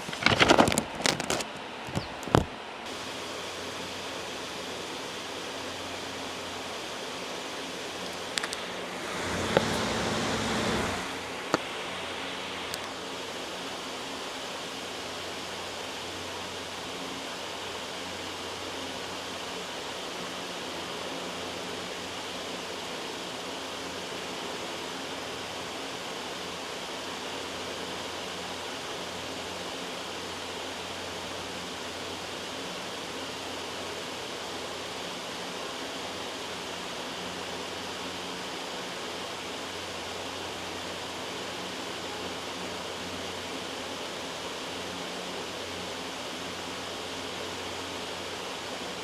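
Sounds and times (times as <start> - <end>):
white noise hiss: 0.0 - 49.0.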